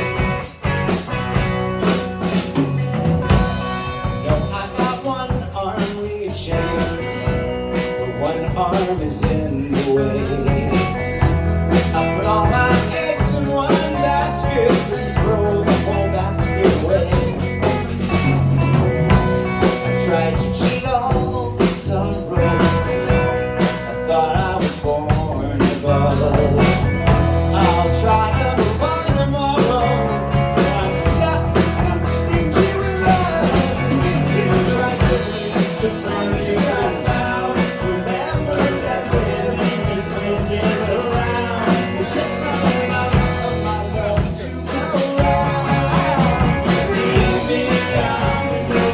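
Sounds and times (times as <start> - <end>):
drum kit: 0.0 - 48.9
electric guitar: 0.0 - 48.9
rock band playing live: 0.0 - 48.9.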